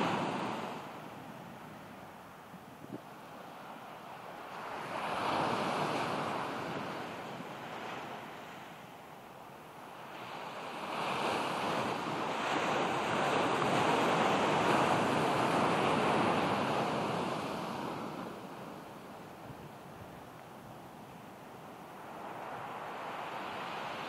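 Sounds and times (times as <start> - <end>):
ocean wave breaking on sand: 0.0 - 8.9, 9.7 - 24.0.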